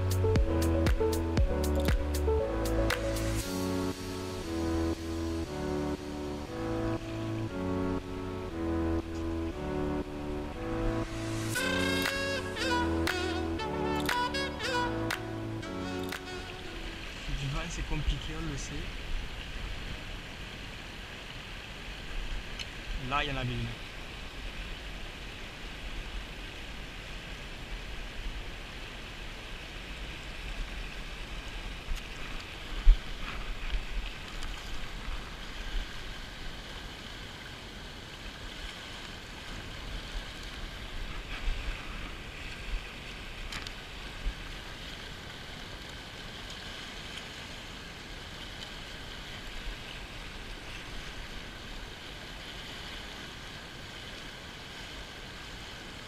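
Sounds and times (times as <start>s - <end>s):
river rushing over stones: 0.0s - 56.0s.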